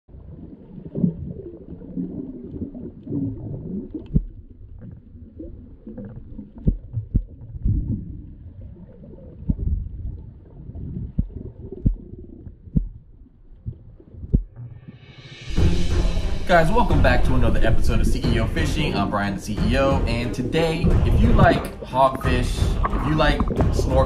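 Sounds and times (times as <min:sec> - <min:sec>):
muffled underwater water movement: 0:00.1 - 0:24.0
dull underwater thumps: 0:02.0 - 0:05.1, 0:05.9 - 0:08.4, 0:09.4 - 0:24.0.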